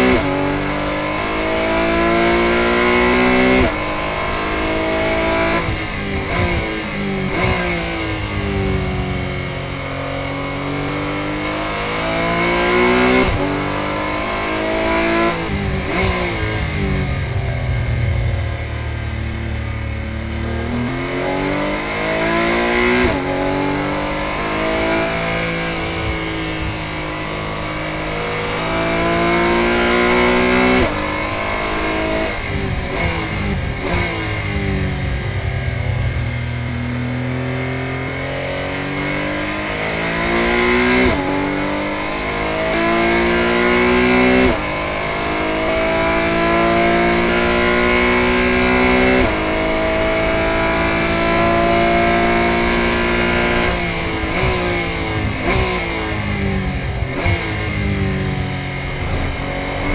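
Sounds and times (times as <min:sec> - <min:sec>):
car engine accelerating at high revs: 0:00.0 - 0:59.9.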